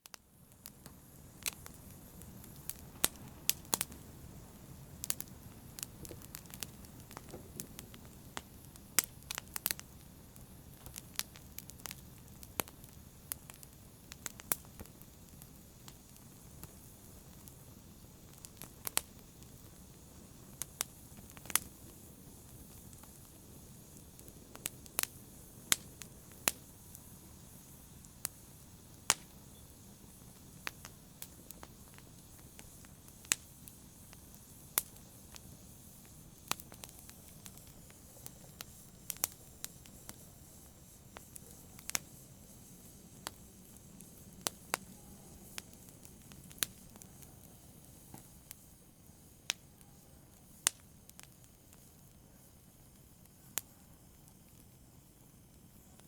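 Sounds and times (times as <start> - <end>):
fire crackling: 0.0 - 56.0
soft steady hiss: 0.0 - 56.0.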